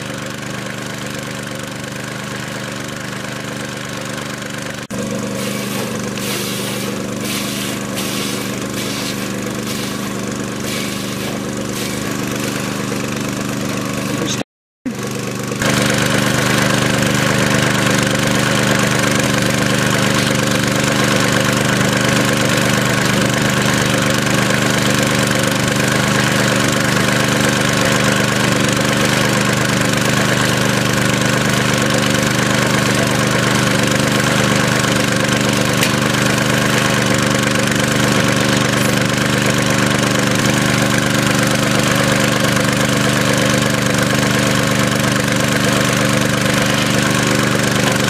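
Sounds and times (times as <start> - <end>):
machine motor idling: 0.0 - 48.0.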